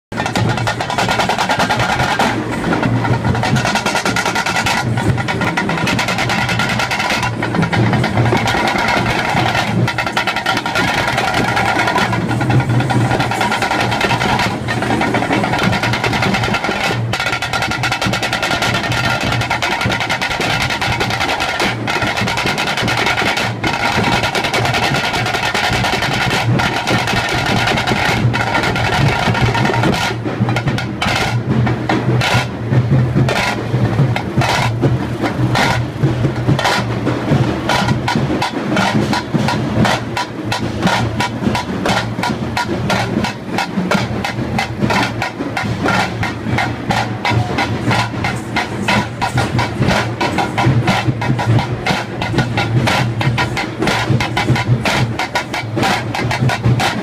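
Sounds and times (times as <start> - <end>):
drum band drumming: 0.1 - 57.0.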